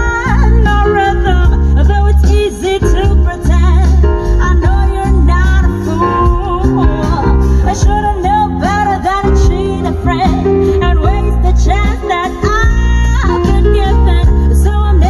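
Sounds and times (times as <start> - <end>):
song with singing and heavy bass: 0.0 - 15.0.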